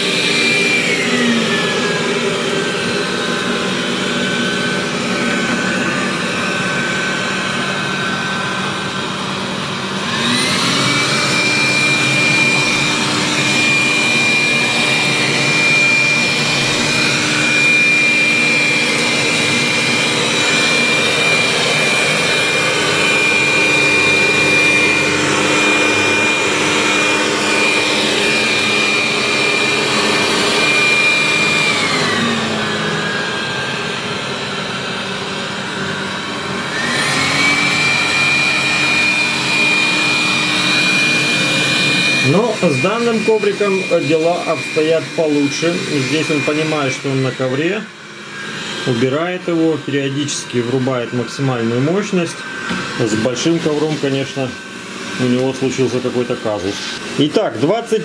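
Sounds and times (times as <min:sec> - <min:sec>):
robot vacuum fan whining: 0:00.0 - 0:58.0.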